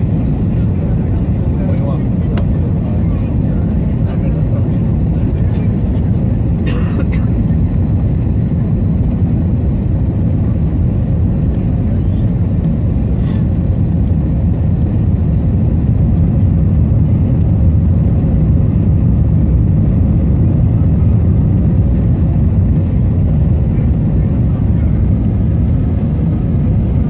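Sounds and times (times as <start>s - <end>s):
jet engine cabin roar: 0.0s - 27.0s.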